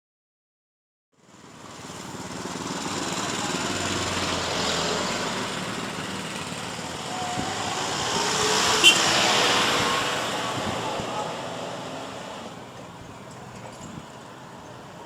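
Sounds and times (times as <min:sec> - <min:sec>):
small motorcycle engines: 0:01.2 - 0:15.0
street traffic: 0:01.2 - 0:15.0.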